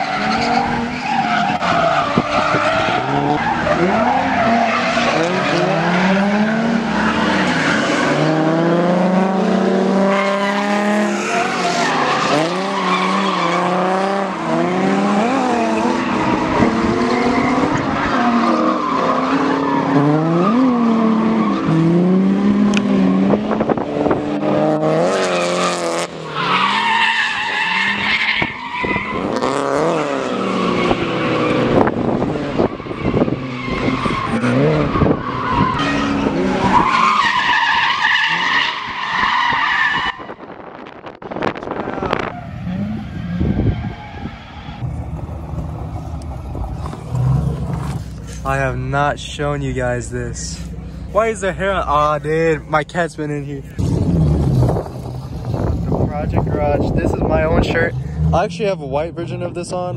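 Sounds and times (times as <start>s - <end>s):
car engines revving hard: 0.0s - 59.9s
tires squealing: 0.0s - 59.9s.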